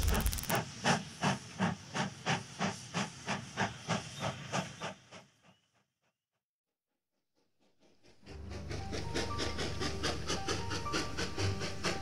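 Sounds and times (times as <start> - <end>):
steam locomotive chuffing: 0.0 - 5.8, 7.6 - 12.0.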